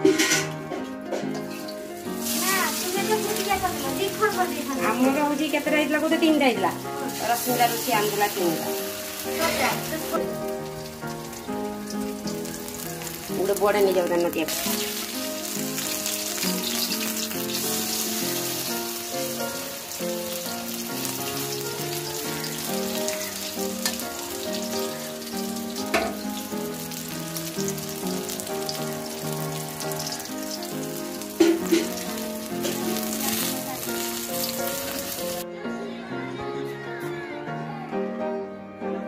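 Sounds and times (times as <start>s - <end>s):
food sizzling in oil: 0.0s - 35.4s
background music: 0.0s - 39.0s.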